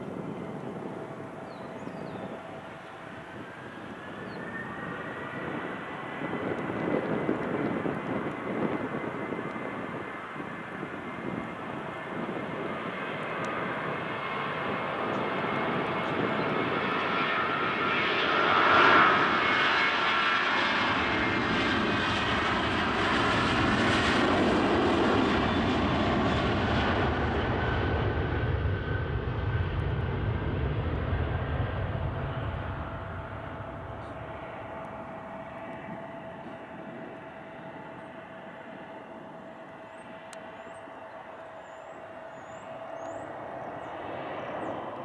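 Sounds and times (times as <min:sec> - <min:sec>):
deep jet rumble: 0:00.0 - 0:45.0
high jet whine: 0:00.0 - 0:45.0
jet engines roaring: 0:00.0 - 0:45.0.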